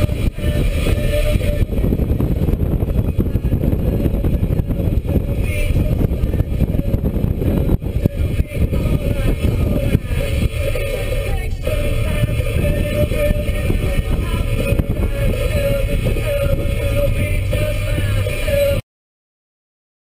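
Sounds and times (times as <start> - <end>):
car engine running: 0.0 - 18.8
road and wind noise: 0.0 - 18.8.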